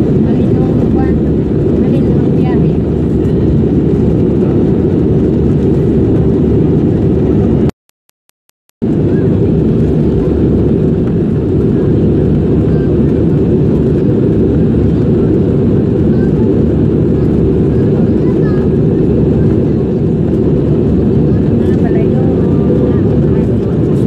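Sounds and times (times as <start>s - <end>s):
airliner cabin rumble: 0.0s - 7.7s, 8.8s - 24.0s.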